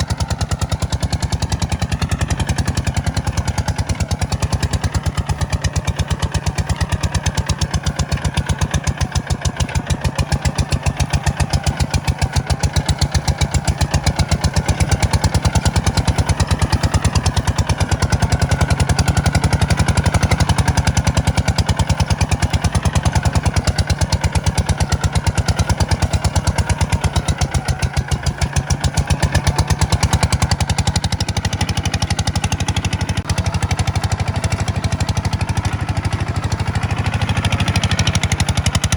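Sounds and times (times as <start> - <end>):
tractor diesel engine chugging: 0.0 - 38.9.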